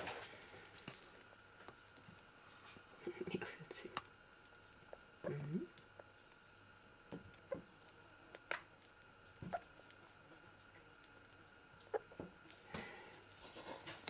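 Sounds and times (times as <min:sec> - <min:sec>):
squirrel eating wet food: 0:00.0 - 0:14.0.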